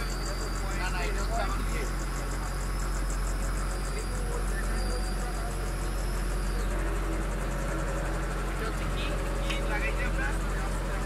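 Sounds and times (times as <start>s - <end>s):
diesel engine humming: 0.0s - 11.0s
high-pitched pulsing chirp: 0.0s - 11.0s.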